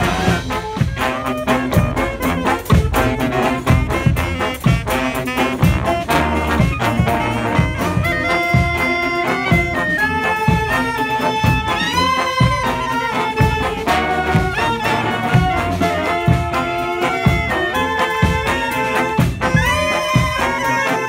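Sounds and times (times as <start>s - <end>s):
steady low drum beat: 0.0s - 20.6s
brass band playing: 0.0s - 21.0s.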